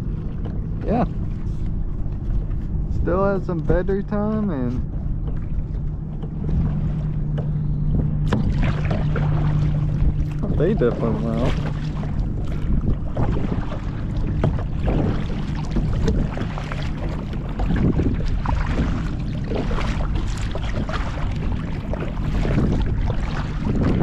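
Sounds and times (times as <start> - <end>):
wind rumble on microphone: 0.0 - 24.0
paddle splashing in water: 3.6 - 24.0.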